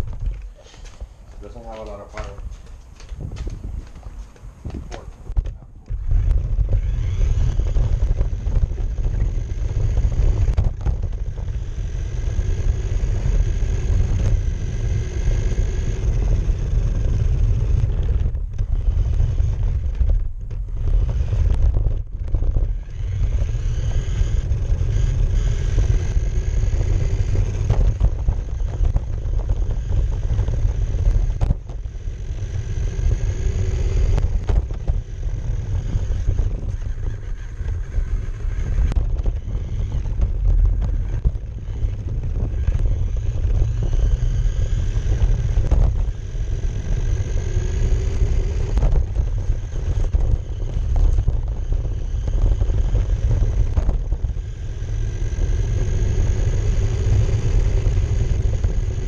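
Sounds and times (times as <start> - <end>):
high electric motor whine: 0.0 - 59.0
tyres rumbling on pavement: 0.0 - 59.0.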